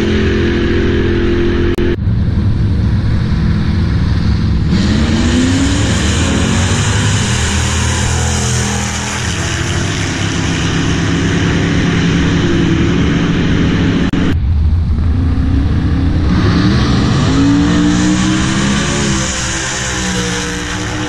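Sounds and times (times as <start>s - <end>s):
drag race cars at full throttle: 0.0s - 21.0s
engines revving: 0.0s - 21.0s.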